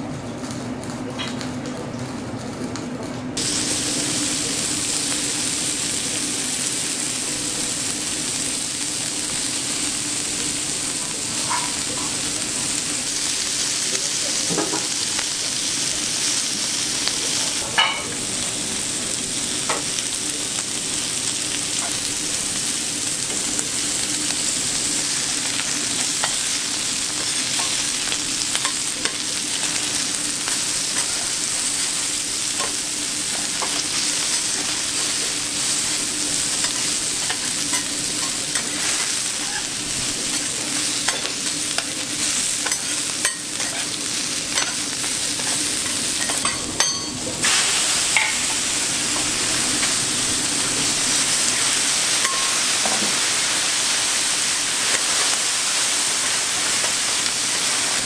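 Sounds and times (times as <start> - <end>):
pork sizzling on a griddle: 0.2 - 58.0.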